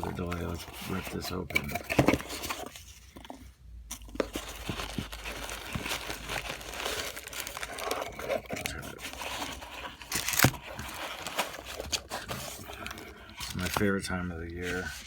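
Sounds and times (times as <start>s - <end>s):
card box packaging ripping: 0.0s - 3.1s, 3.9s - 13.9s.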